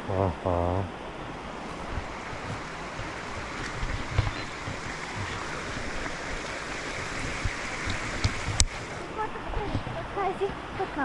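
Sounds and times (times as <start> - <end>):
waterfall rushing: 0.0 - 11.0
wind thumps on microphone: 1.2 - 11.0.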